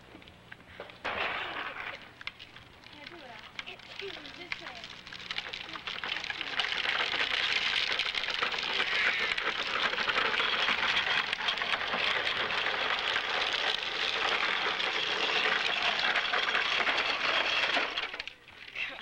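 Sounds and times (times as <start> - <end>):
plastic wheels rattling on concrete: 0.8 - 19.0.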